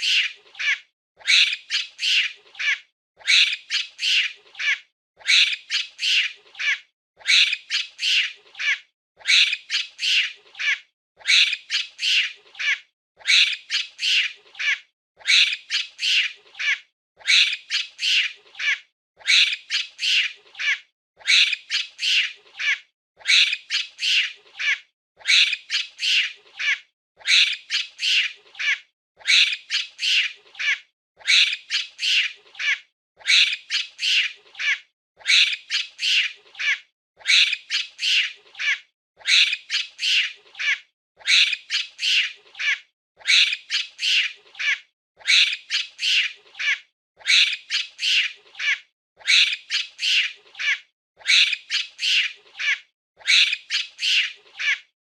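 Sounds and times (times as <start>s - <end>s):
monkey screeching: 0.0s - 54.9s.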